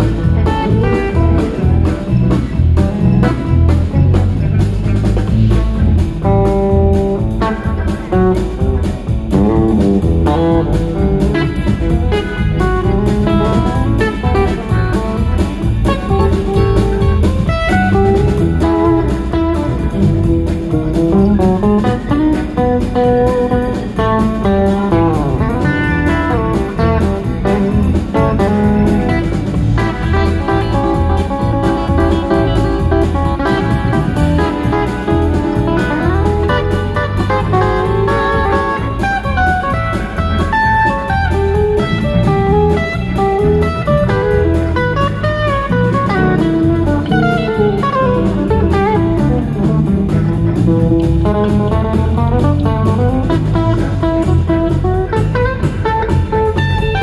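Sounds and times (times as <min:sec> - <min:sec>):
lead guitar melody with bent notes: 0:00.0 - 0:57.0
rock band playing: 0:00.0 - 0:57.0.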